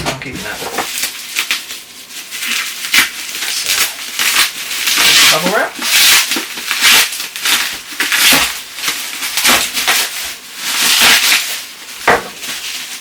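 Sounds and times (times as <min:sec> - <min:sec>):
bubble wrap crinkling: 0:00.2 - 0:13.0.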